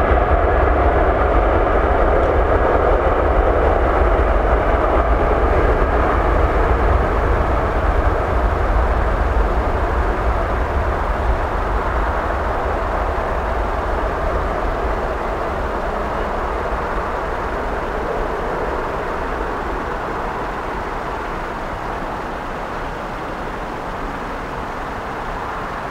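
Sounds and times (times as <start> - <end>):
turbofan engines roaring: 0.0 - 25.9.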